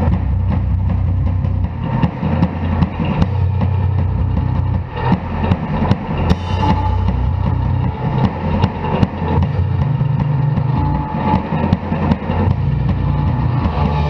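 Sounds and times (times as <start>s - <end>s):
droning electric guitar and bass: 0.0s - 14.0s
drum strikes: 0.0s - 14.0s
rock band playing: 0.0s - 14.0s.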